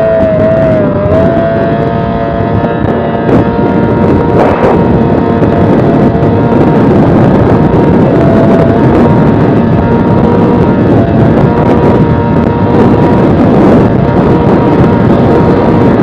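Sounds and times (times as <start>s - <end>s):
outboard motor running flat out: 0.0s - 16.0s
water noise from hull: 0.0s - 16.0s
wind rush on microphone: 0.0s - 16.0s.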